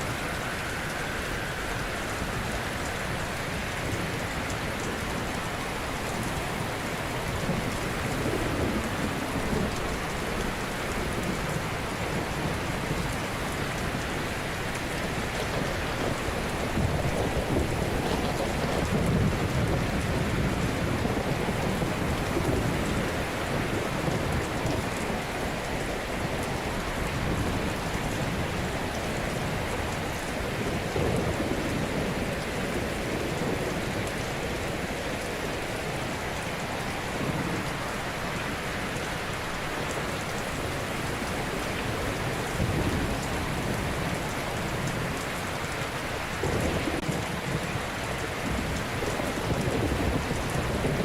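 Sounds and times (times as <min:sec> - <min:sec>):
ocean surf washing onto shore: 0:00.0 - 0:51.0.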